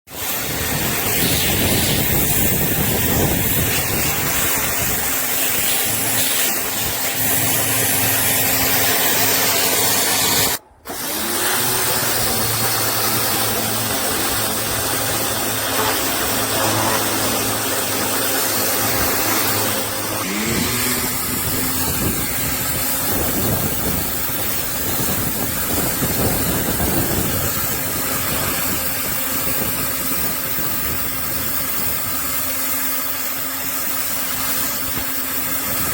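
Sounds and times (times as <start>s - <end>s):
pressure washer motor humming: 0.1s - 35.9s
water jet hissing: 0.1s - 35.9s.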